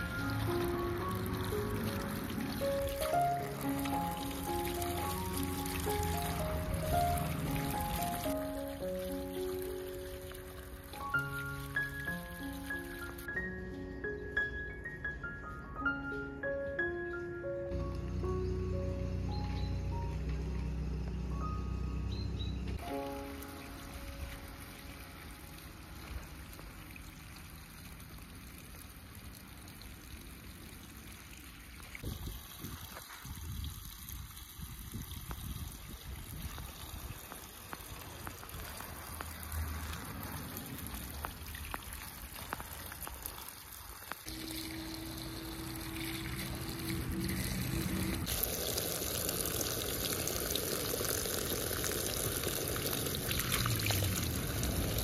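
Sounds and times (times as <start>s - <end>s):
running water: 0.0s - 13.5s, 22.8s - 55.0s.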